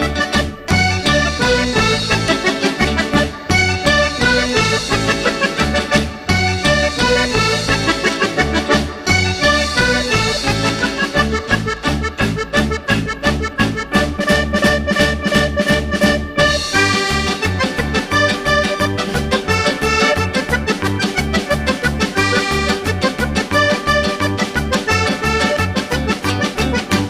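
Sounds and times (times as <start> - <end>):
upbeat music with accordion melody: 0.0 - 27.0.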